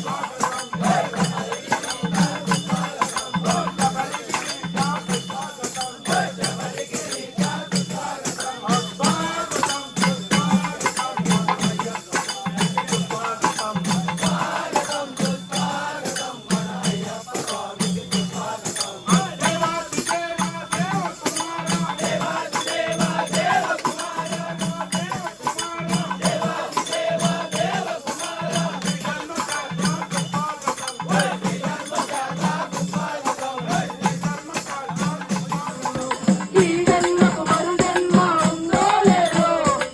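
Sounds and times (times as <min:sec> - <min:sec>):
jingling hand percussion: 0:00.0 - 0:39.9
steady drum beat: 0:00.0 - 0:39.9
voices singing devotional song: 0:00.0 - 0:39.9.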